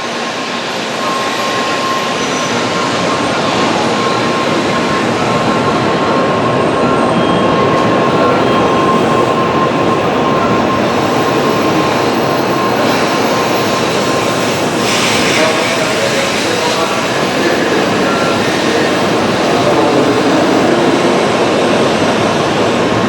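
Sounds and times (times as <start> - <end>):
thin steady whine: 0.0 - 22.2
train rushing past: 0.0 - 23.0.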